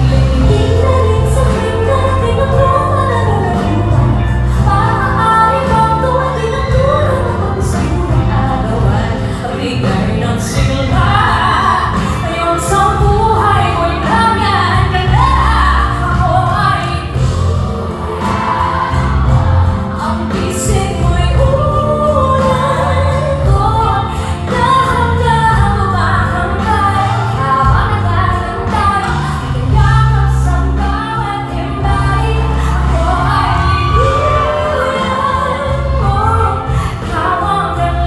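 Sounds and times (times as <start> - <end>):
live pop band music: 0.0 - 38.0
woman singing into a microphone: 0.0 - 38.0.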